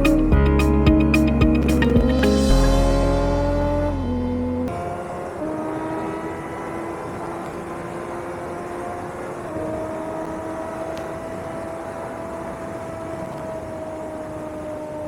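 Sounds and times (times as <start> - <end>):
motorcycle engine running: 0.0 - 14.0
rushing wind noise: 0.0 - 15.0.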